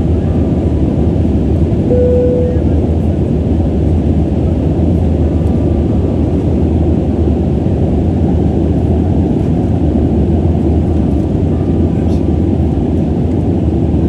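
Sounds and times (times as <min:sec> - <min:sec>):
jet engine drone: 0:00.0 - 0:14.0.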